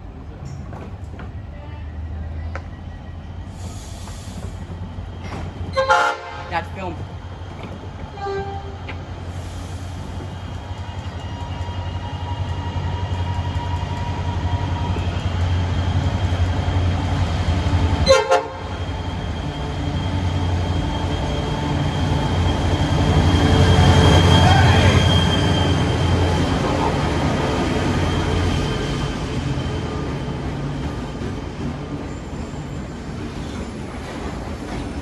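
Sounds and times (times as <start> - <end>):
train running: 0.0 - 35.0.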